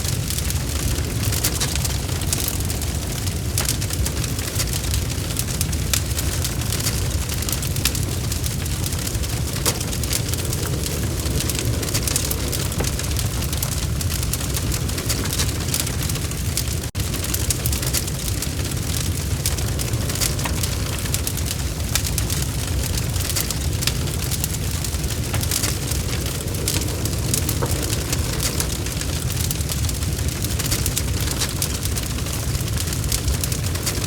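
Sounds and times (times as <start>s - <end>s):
log fire crackling and popping: 0.0s - 34.0s.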